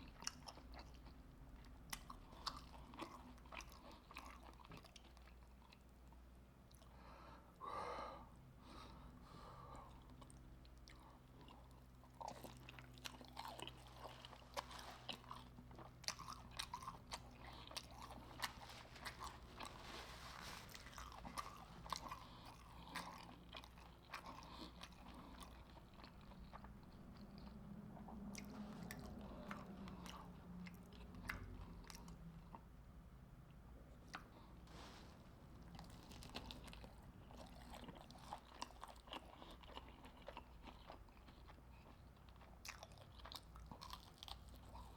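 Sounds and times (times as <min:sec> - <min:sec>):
chewing crunchy fried food: 0:00.0 - 0:07.0, 0:09.2 - 0:44.9.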